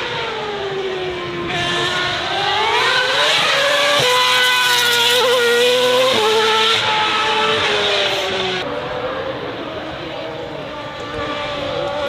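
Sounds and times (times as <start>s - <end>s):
racing car engine revving: 0.0s - 12.0s.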